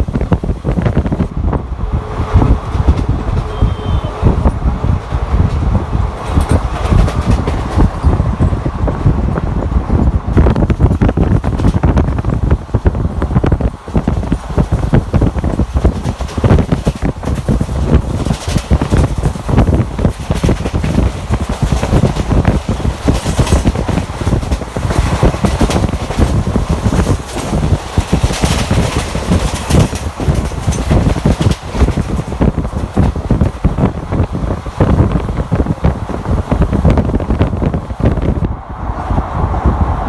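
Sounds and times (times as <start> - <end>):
moving train rumble: 0.0 - 40.0
wind buffeting microphone: 0.0 - 40.0
irregular clatter: 2.4 - 38.4.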